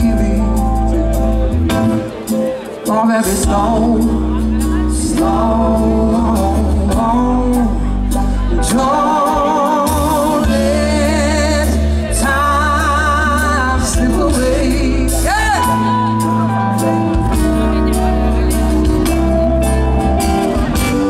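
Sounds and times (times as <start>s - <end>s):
male singer with vibrato: 0.0s - 17.5s, 18.6s - 21.0s
drums: 0.0s - 21.0s
electric bass: 0.0s - 21.0s.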